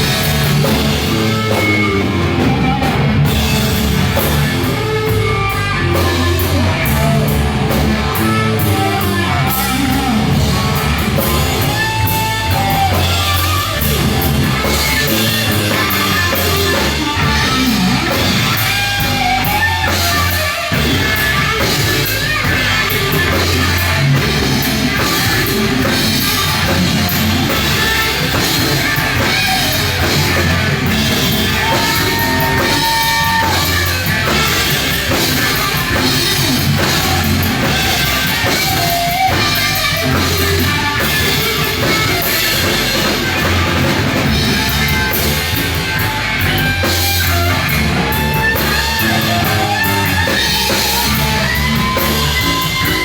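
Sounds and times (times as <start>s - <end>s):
bass guitar: 0.0s - 53.0s
drum kit playing: 0.0s - 53.0s
electric guitar bending notes: 0.0s - 53.0s.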